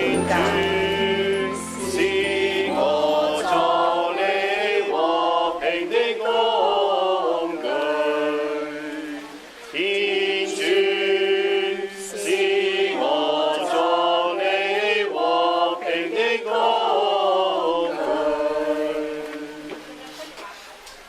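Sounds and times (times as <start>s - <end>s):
voices singing religious chant: 0.0s - 20.4s.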